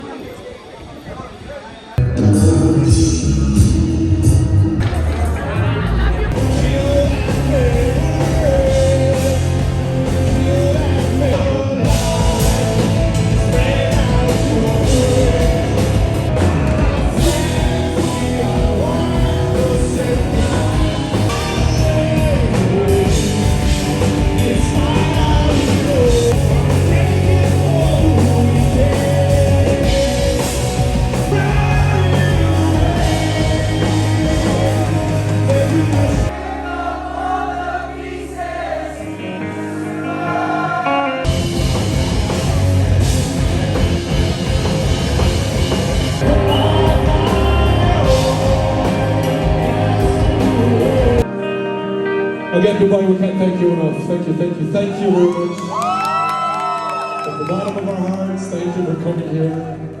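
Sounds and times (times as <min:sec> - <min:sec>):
person singing: 0:02.0 - 0:41.4, 0:46.2 - 0:55.8
rock band playing: 0:02.0 - 0:59.0.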